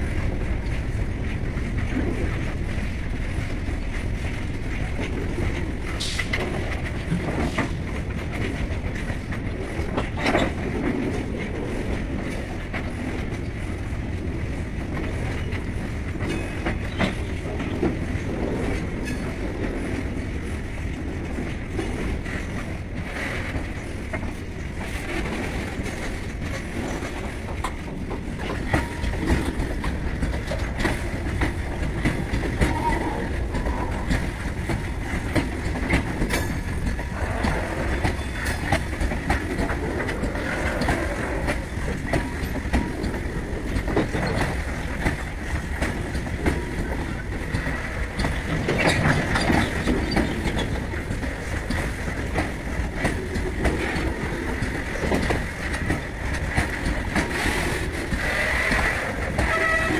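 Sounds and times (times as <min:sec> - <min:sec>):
freight train rumbling past: 0:00.0 - 0:59.9
wheels clicking over rail joints: 0:00.2 - 0:59.9.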